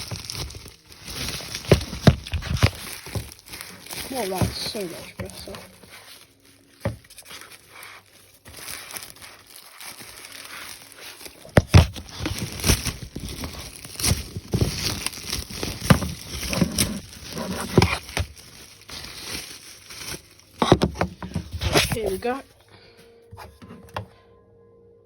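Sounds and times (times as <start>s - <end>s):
plastic crinkling and rustling: 0.0s - 22.6s.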